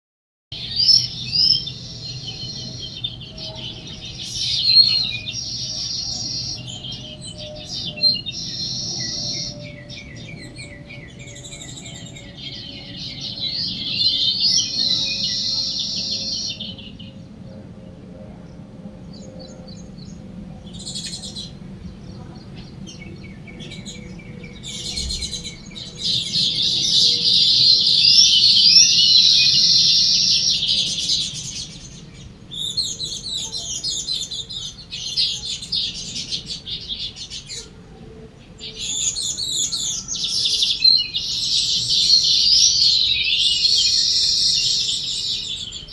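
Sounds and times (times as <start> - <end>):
birds chirping and singing: 0.6 - 45.9.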